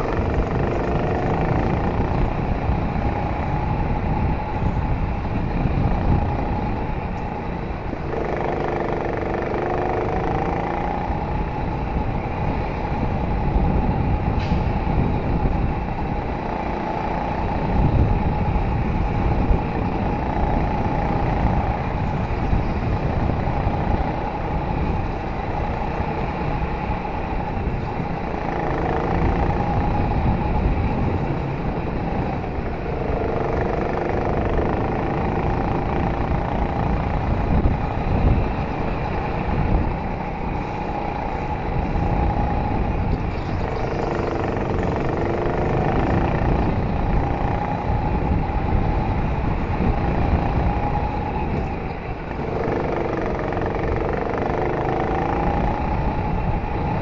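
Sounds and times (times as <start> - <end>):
go-kart engine revving: 0.0 - 4.4, 5.5 - 12.0, 15.3 - 57.0
wind and track noise: 0.0 - 57.0.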